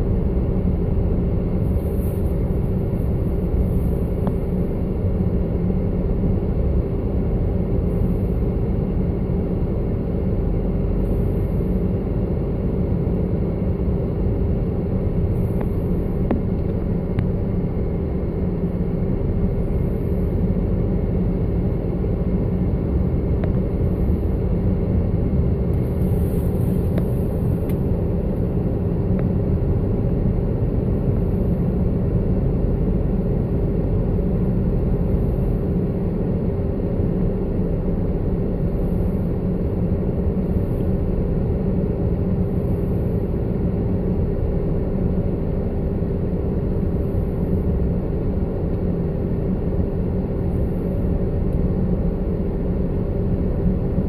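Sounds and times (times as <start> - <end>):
car interior driving rumble: 0.0 - 54.0.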